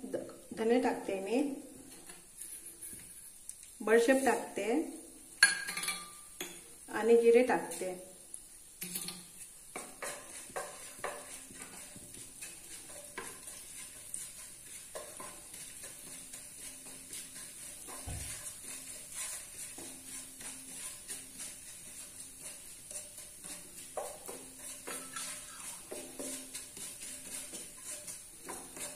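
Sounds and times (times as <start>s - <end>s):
wooden spatula scraping a pan: 0.0s - 5.1s, 7.0s - 28.9s
seeds sizzling in hot oil: 0.0s - 28.9s.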